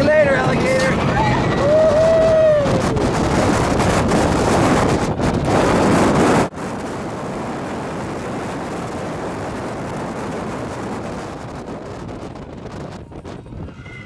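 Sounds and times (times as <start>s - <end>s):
roller coaster rumbling on track: 0.0s - 14.0s
wind rushing over microphone: 0.0s - 14.0s.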